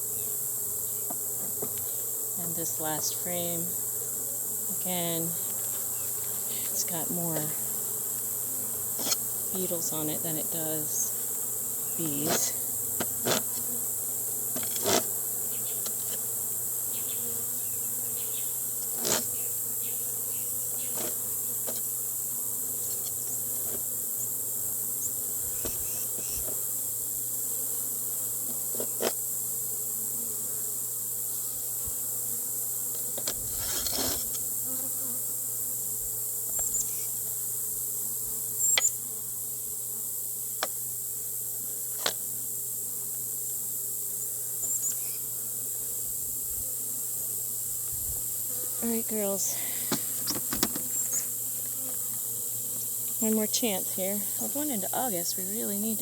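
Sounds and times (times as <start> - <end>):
honeybees buzzing: 0.0 - 56.0.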